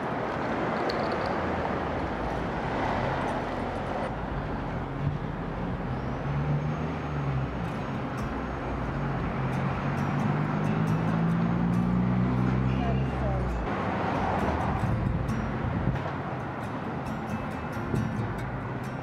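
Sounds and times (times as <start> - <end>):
hum of passing vehicles: 0.0 - 19.0
vehicle engine: 0.0 - 19.0.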